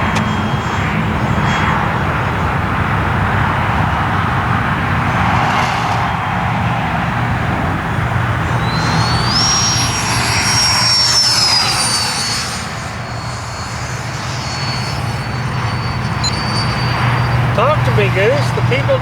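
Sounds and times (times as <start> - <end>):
model jet fan whine flying past: 0.0 - 19.0.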